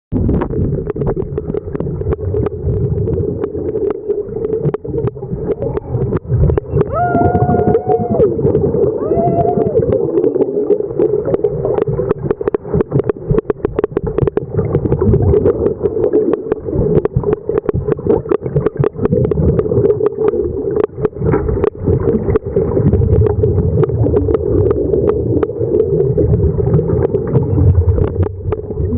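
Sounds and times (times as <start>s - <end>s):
boat hum underwater: 0.1s - 28.9s
bubbles crackling and gurgling: 0.1s - 28.9s.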